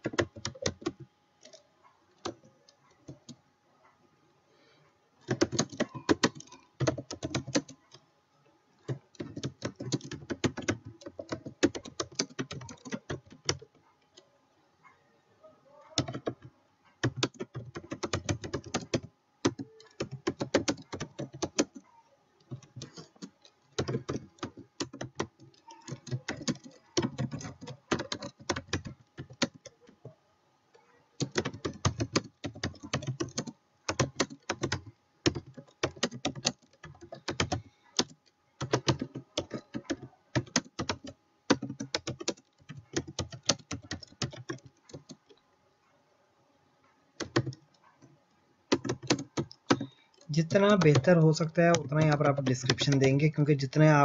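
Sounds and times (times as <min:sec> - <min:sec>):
typing on a computer keyboard: 0:00.0 - 0:03.4, 0:05.2 - 0:08.0, 0:08.8 - 0:14.3, 0:15.9 - 0:45.4, 0:47.2 - 0:54.0.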